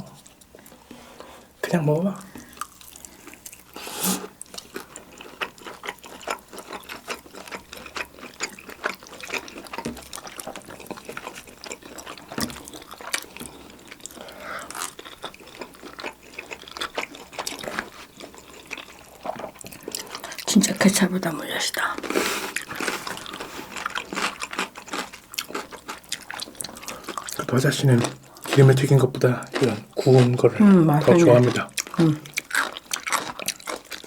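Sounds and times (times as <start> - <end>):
wet chewing clicks and smacks: 4.4 - 20.5, 22.0 - 34.0.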